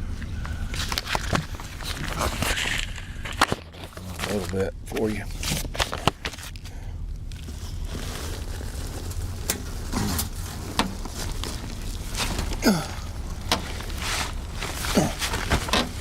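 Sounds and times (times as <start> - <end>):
steady low hum: 0.0 - 16.0
duct rustling and scraping: 0.2 - 16.0.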